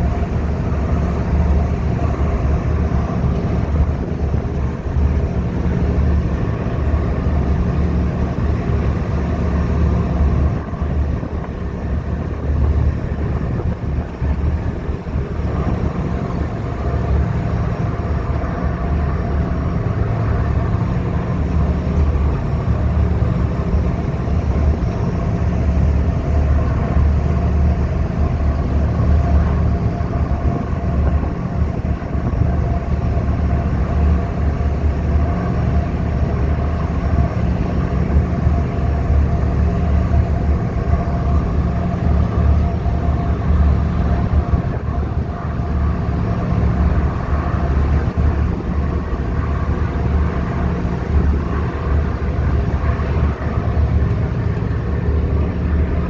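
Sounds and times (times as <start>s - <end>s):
diesel engines droning: 0.0s - 56.0s.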